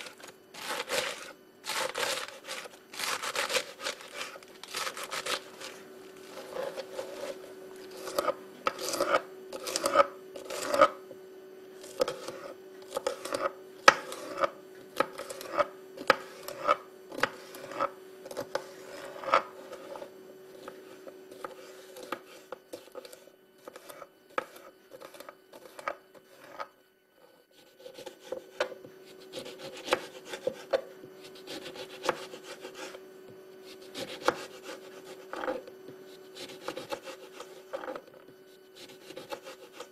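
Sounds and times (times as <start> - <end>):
knife cutting vegetables on board: 0.0 - 11.0, 11.8 - 26.7, 27.5 - 33.0, 33.6 - 39.9
steady hum: 0.0 - 39.9.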